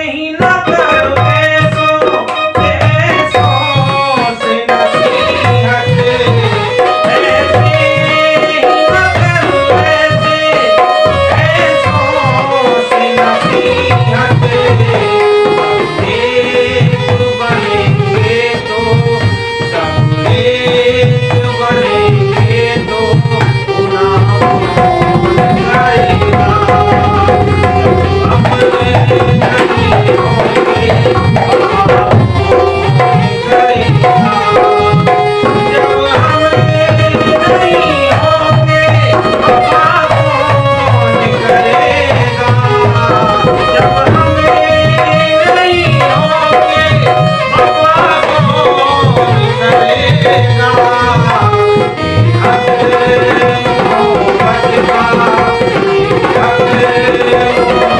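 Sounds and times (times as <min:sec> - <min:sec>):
tabla rhythm: 0:00.0 - 0:57.9
sustained melody line: 0:04.5 - 0:57.9.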